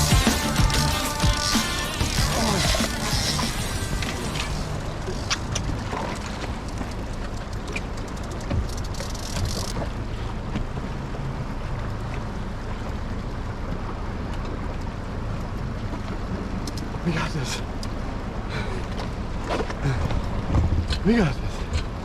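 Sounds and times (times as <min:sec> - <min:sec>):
outboard motor humming: 0:00.0 - 0:22.0
water noise: 0:00.0 - 0:22.0
wind: 0:00.0 - 0:22.0.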